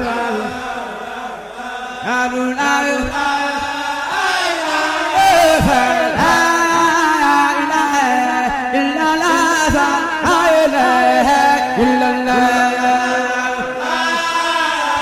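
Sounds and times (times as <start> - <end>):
chanted vocal melody: 0.0 - 15.0.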